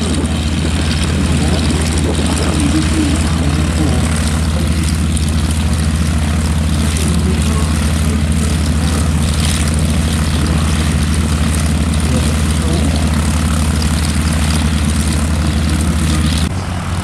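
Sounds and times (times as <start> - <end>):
biplane piston engine idling: 0.0 - 17.0.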